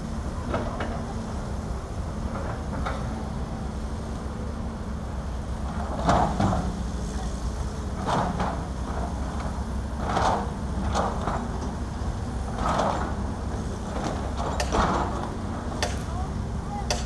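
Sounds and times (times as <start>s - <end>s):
diesel machinery rumbling: 0.0s - 17.0s.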